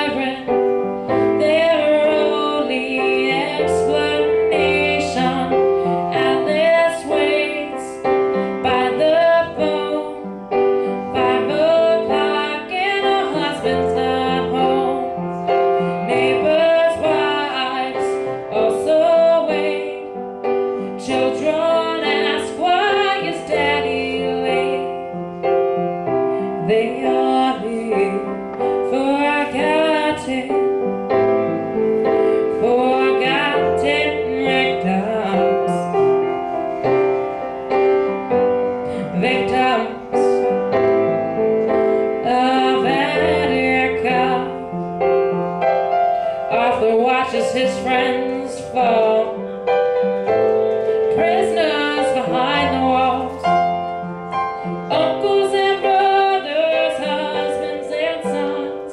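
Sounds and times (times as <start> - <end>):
girl singing a ballad: 0.0 - 25.3, 26.3 - 36.3, 38.6 - 40.8, 41.6 - 45.5, 46.1 - 49.6, 51.1 - 58.9
piano chords: 0.0 - 58.9.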